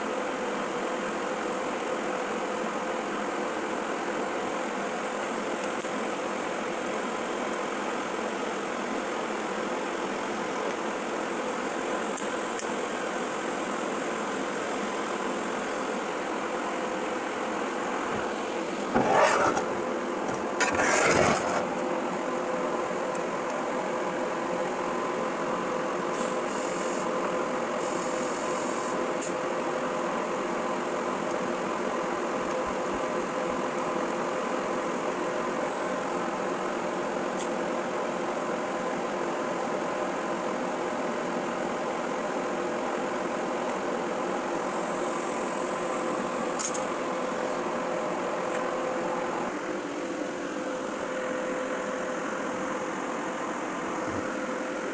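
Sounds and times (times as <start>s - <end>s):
machine hum with steady tones: 0.0s - 54.9s.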